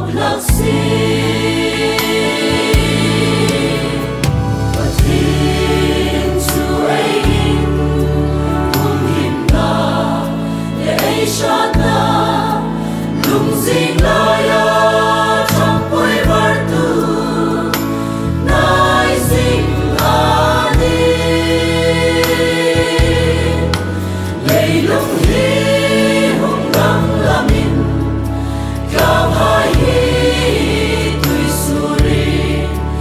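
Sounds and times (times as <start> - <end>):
choir singing in harmony: 0.0 - 33.0
instrumental accompaniment: 0.1 - 33.0.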